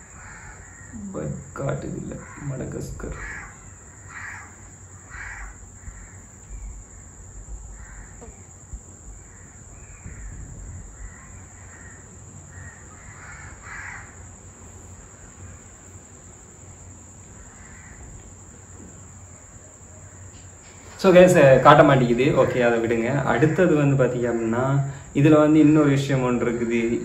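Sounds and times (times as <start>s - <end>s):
birds calling: 0.0s - 27.0s
steady low hum: 0.0s - 27.0s.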